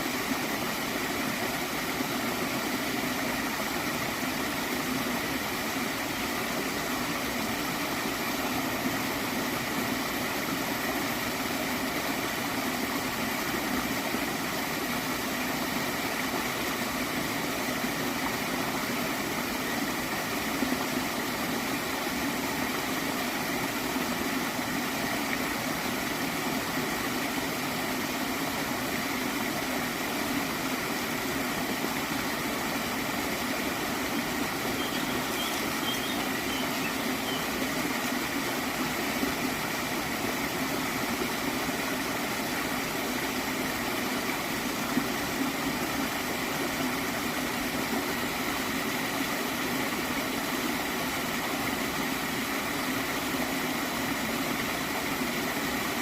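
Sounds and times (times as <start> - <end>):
stream water flowing and gurgling: 0.0 - 56.0.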